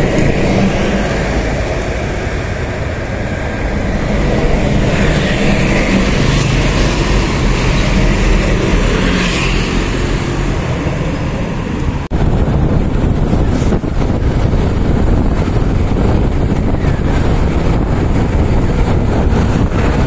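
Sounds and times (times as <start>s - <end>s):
engine rumble: 0.0s - 20.0s
road noise: 0.0s - 20.0s.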